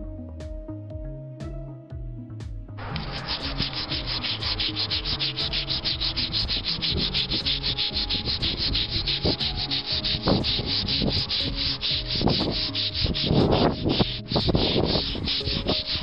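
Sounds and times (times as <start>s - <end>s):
hand rubbing polishing car: 2.8s - 16.0s
heavier scuffing strokes: 2.8s - 16.0s.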